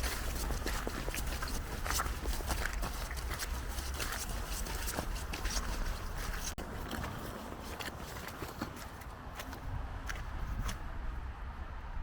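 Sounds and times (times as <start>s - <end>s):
footsteps in snow: 0.0s - 10.9s.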